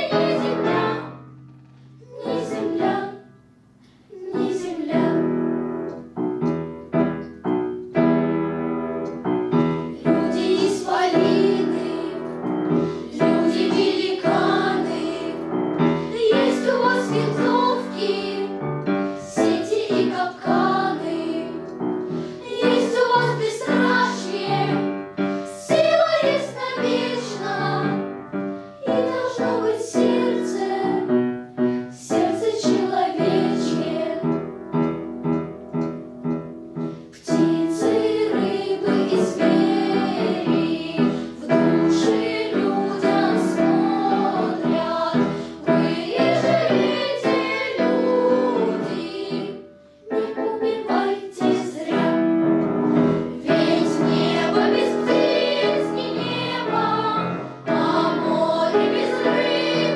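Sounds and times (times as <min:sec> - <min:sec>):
children's choir singing: 0:00.0 - 0:01.4, 0:02.0 - 0:03.5, 0:04.1 - 0:06.5, 0:09.0 - 0:36.3, 0:37.1 - 0:59.9
piano accompaniment: 0:00.0 - 0:59.9.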